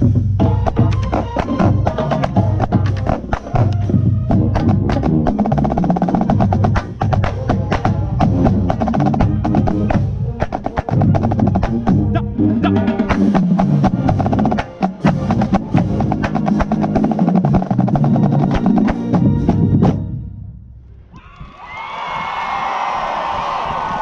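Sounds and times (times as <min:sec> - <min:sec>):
marching snare drum rolls: 0:00.0 - 0:12.2, 0:12.8 - 0:20.0
marching band brass: 0:00.0 - 0:20.6
bass drums: 0:00.0 - 0:21.2.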